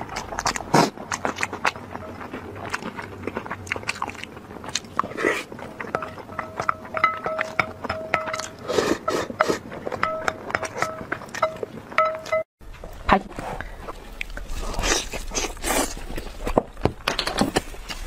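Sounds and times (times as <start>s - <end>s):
chewing: 0.0s - 12.4s, 13.6s - 16.6s.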